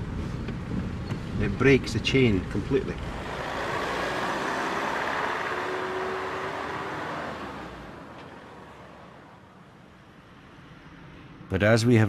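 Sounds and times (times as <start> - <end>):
road traffic rushing: 0.0 - 11.5.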